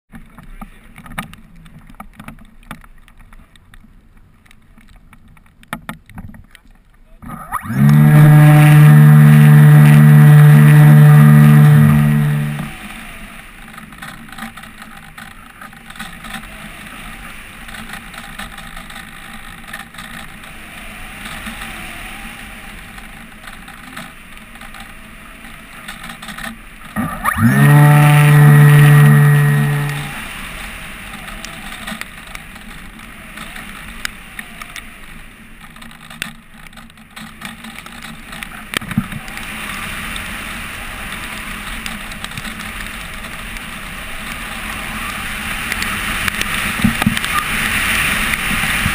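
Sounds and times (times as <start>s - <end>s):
model plane motor and propeller: 7.1s - 48.9s.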